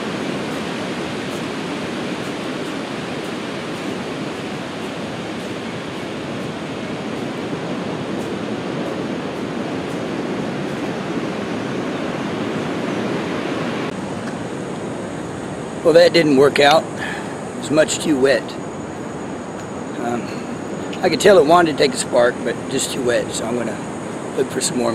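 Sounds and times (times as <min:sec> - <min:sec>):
ocean surf breaking: 0:00.0 - 0:24.9
wind: 0:00.0 - 0:24.9.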